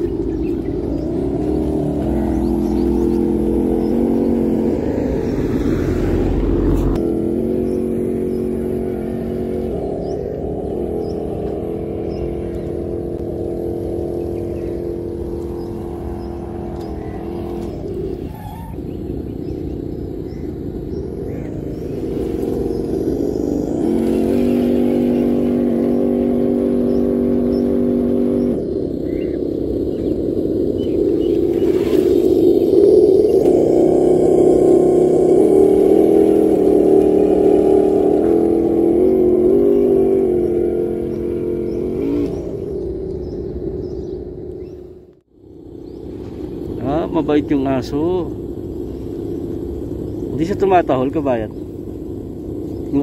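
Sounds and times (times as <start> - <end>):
low rumble: 0.0 - 53.0.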